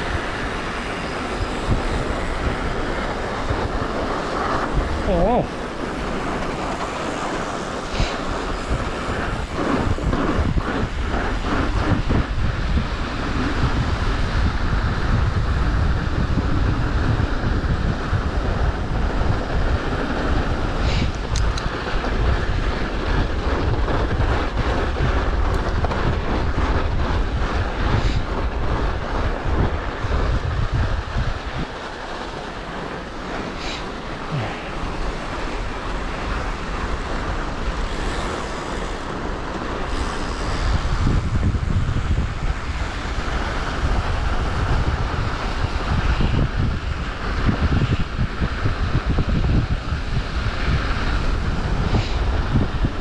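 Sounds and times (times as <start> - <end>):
bike tyres rolling on snow: 0.0 - 53.0
wind buffeting microphone: 0.0 - 53.0.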